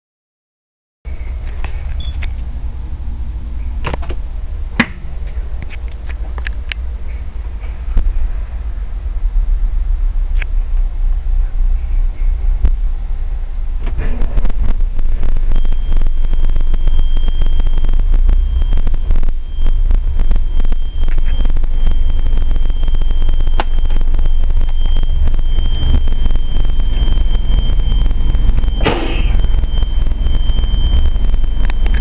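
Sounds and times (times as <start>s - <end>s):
diesel bus engine rumbling: 1.1s - 32.0s.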